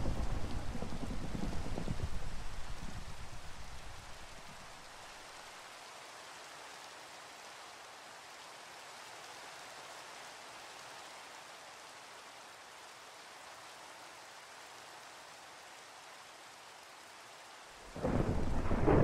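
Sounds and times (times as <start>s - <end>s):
soft steady rain: 0.0s - 19.0s.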